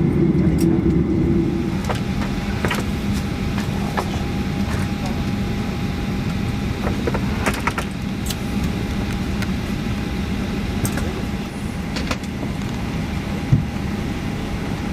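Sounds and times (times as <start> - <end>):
aircraft cabin rumble and hum: 0.0 - 14.9.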